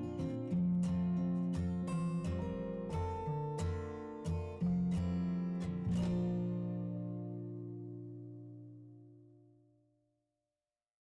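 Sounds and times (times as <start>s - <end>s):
strummed acoustic guitar: 0.0s - 9.4s.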